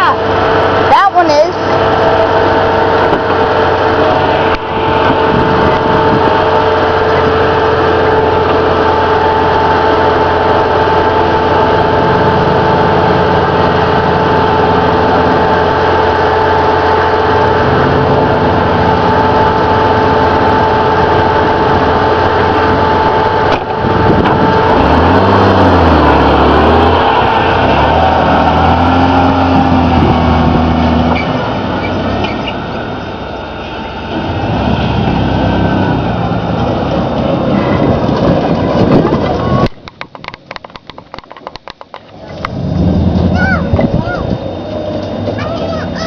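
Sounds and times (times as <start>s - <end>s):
truck engine running hard with whine: 0.0s - 46.0s.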